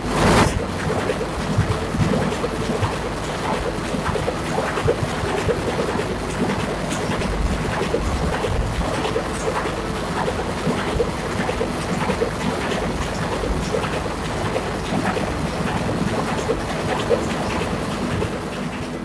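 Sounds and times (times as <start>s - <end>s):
mechanical ticks and clatter: 0.0s - 19.0s.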